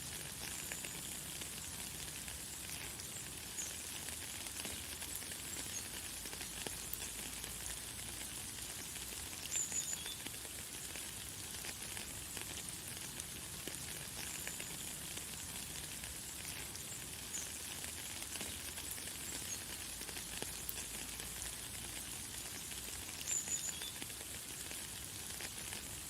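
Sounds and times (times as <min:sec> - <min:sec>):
light rain falling: 0:00.0 - 0:26.0.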